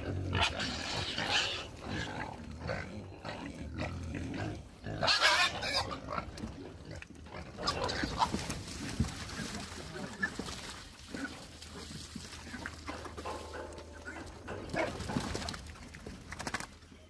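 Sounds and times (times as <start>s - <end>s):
pigs grunting and squealing: 0.0s - 15.6s.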